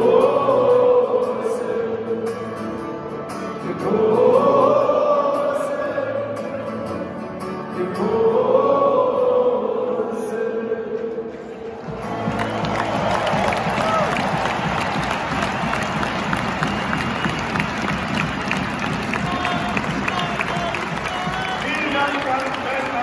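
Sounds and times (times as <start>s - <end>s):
music: 0.0s - 23.0s
stadium crowd singing: 0.0s - 23.0s.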